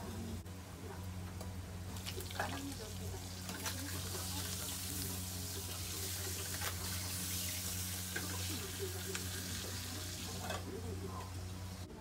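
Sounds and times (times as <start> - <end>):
steady low hum: 0.0 - 12.0
ham sizzling in oil: 1.9 - 11.8.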